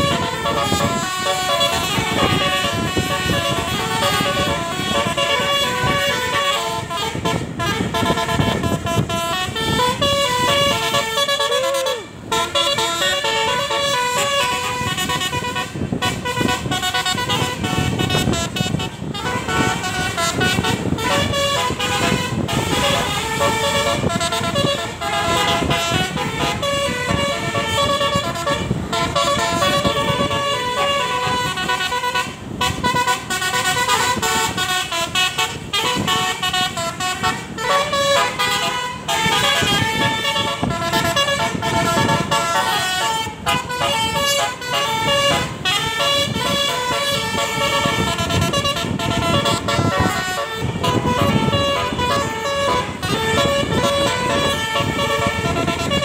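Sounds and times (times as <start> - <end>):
multi-tone air horn playing a tune: 0.0 - 56.0.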